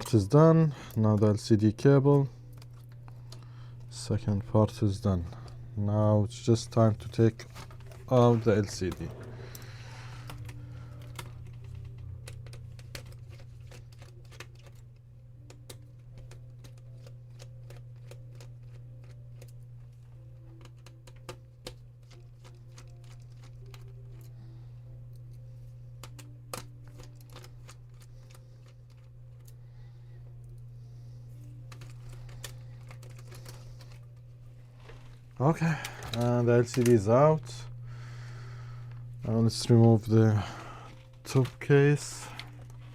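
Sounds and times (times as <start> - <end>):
low hum: 0.0 - 21.1, 21.9 - 42.9.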